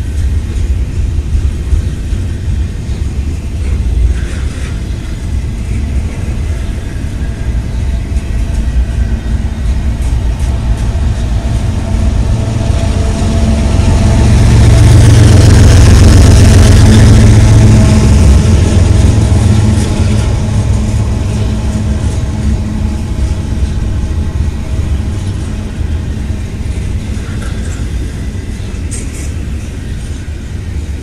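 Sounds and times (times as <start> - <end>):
diesel locomotive engine drone: 0.0 - 31.0
freight train rumbling on rails: 0.0 - 31.0.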